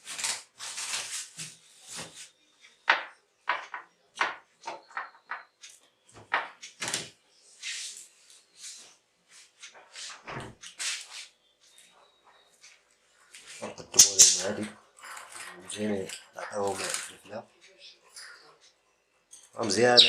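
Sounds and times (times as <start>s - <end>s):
things being handled: 0.0s - 19.9s.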